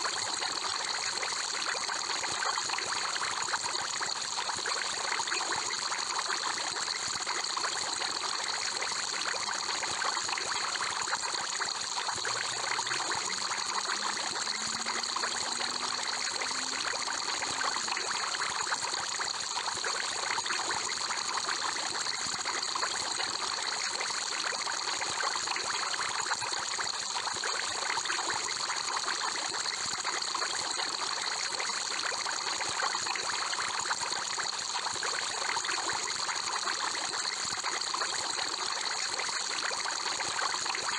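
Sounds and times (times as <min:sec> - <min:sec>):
aquarium water bubbling: 0:00.0 - 0:40.9.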